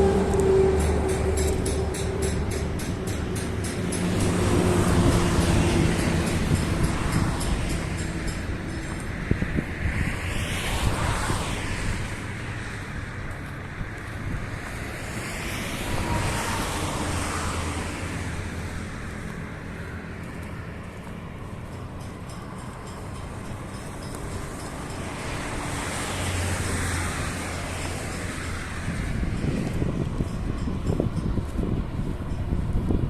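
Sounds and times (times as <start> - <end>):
wind noise on microphone: 0.0 - 19.6, 23.2 - 33.0
steady traffic hum: 0.0 - 33.0
vehicles passing: 0.0 - 33.0.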